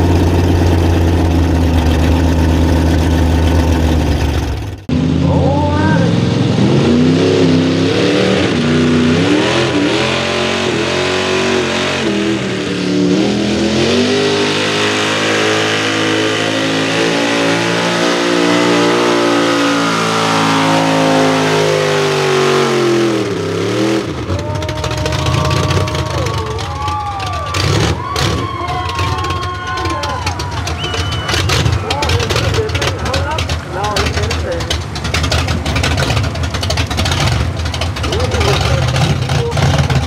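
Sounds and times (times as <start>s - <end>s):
truck engine revving under load: 0.0s - 40.0s.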